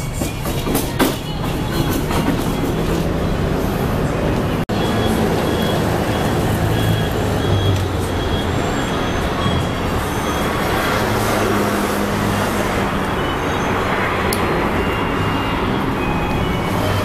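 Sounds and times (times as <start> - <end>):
large vehicle engine rumbling: 0.0 - 17.0.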